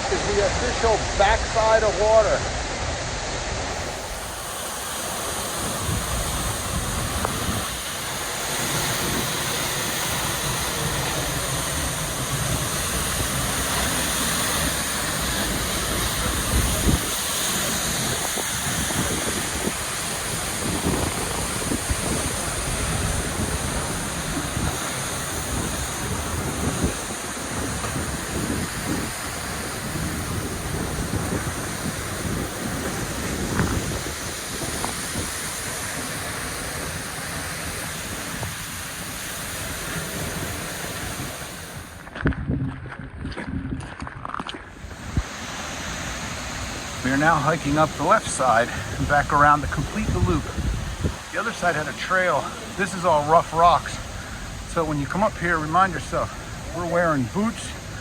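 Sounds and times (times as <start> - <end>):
waterfall rushing: 0.0 - 42.1, 44.7 - 58.0
wind buffeting microphone: 0.0 - 58.0.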